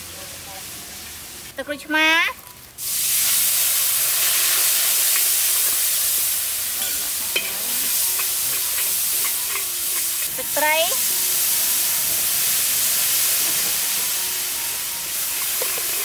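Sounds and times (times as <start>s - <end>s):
liquid sizzling in a hot wok: 0.0s - 16.0s.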